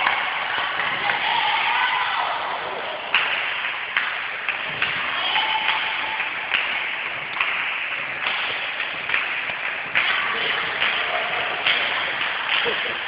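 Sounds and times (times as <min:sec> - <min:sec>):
echoing sports hall hubbub: 0:00.0 - 0:13.0.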